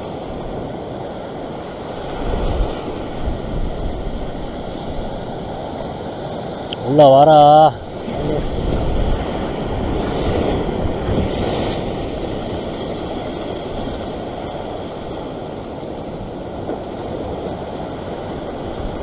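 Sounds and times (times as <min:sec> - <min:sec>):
surf breaking on rocks: 0:00.0 - 0:19.0
wind on microphone: 0:00.0 - 0:19.0.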